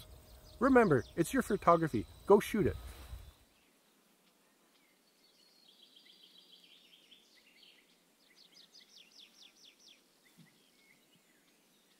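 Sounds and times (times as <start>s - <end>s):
songbird calls: 0.0s - 11.9s.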